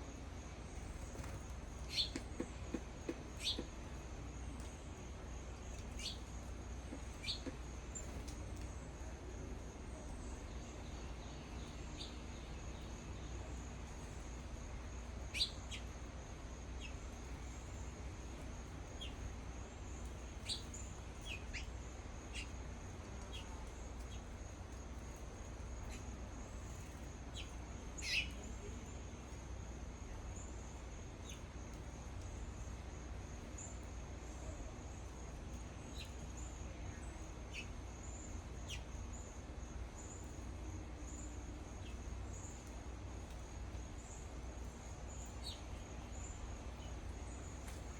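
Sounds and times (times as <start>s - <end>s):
low steady hum: 0.0s - 47.9s
songbirds chirping: 0.0s - 47.9s.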